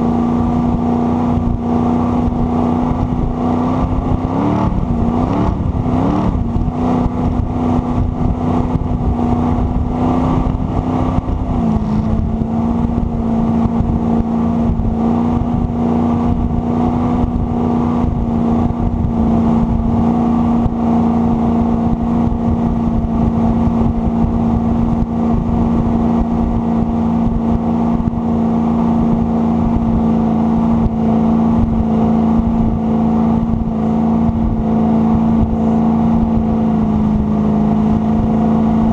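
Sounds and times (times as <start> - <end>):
jet boat engine running: 0.0 - 38.9
wind and water rumble: 0.0 - 38.9.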